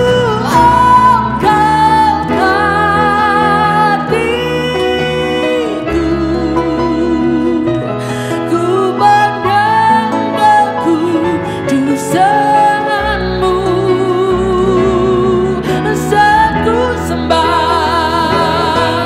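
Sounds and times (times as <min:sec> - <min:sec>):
keyboard and guitar: 0:00.0 - 0:19.0
woman singing: 0:00.0 - 0:19.0.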